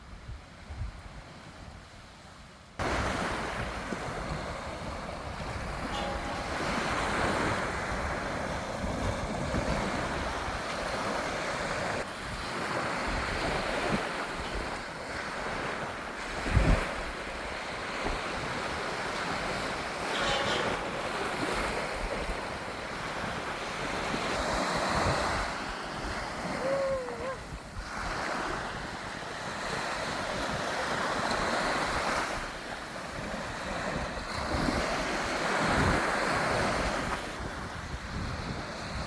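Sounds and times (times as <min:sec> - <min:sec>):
waves washing onto beach: 0:00.4 - 0:39.0
wind buffeting microphone: 0:02.8 - 0:39.0.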